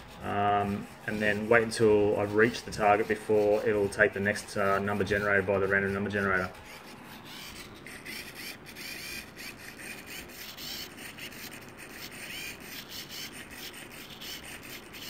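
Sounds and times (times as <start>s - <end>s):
small geared motor whirring: 0.0s - 15.0s.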